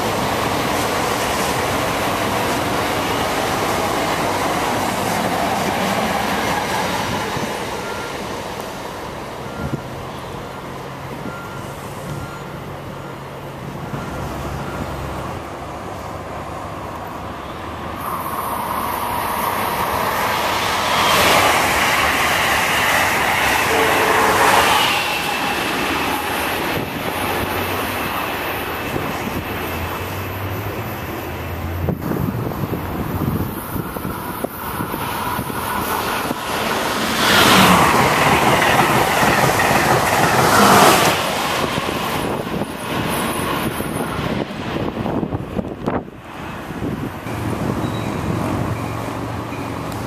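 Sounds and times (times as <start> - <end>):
distant train low hum: 0.0 - 50.0
high-speed train passing: 0.0 - 50.0.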